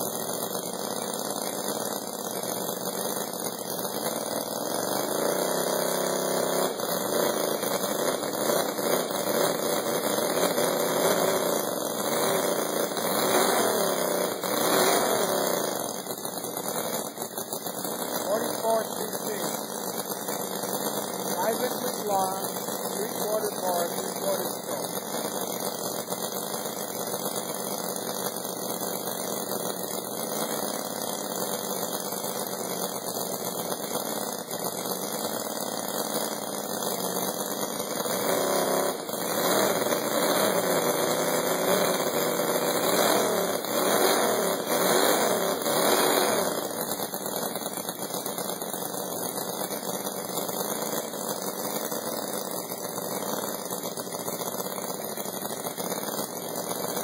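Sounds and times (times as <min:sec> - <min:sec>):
model engine running and revving: 0:00.0 - 0:57.0.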